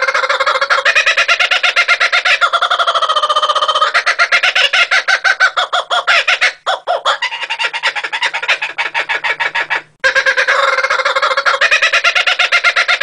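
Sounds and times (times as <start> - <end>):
kookaburras cackling: 0.0 - 13.0.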